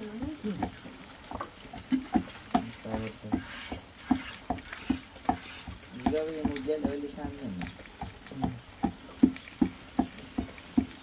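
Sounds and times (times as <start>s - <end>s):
pestle pounding in metal pot: 2.1s - 11.0s.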